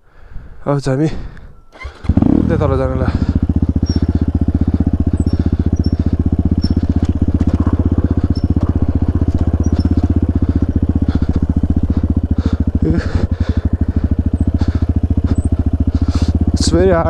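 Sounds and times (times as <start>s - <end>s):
dirt bike engine idling: 0.1s - 17.0s.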